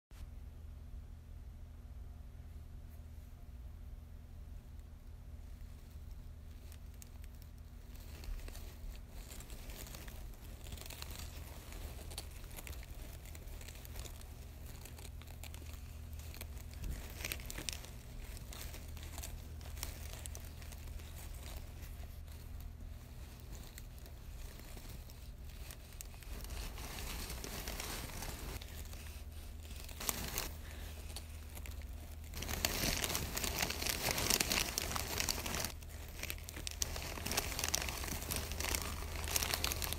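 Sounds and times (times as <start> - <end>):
steady low hum: 0.2 - 39.9
crinkling and rustling: 4.7 - 39.9.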